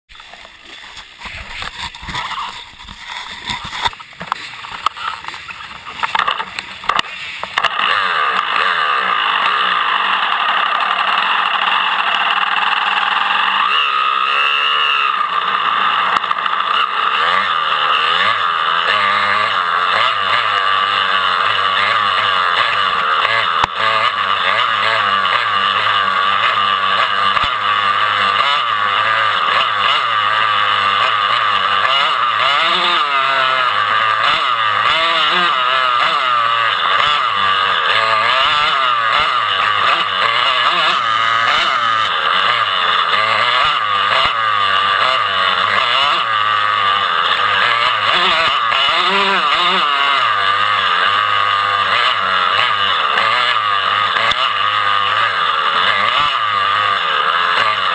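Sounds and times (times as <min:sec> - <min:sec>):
dirt bike engine revving: 0:00.1 - 0:57.9.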